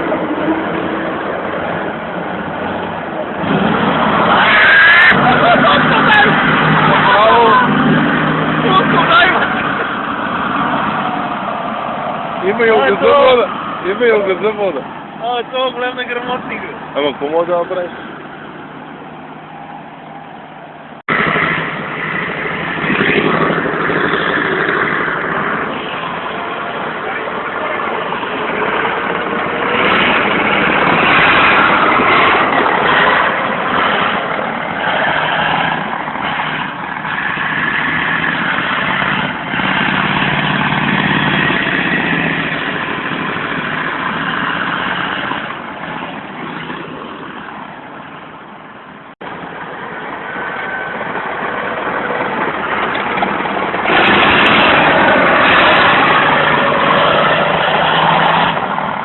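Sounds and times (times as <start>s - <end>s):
tracked vehicle diesel engine running: 0.0s - 59.0s.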